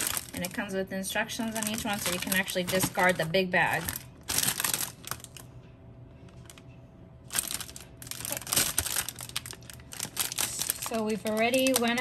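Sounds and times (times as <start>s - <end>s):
plastic wrapper crinkling: 0.0s - 5.5s, 6.2s - 12.0s.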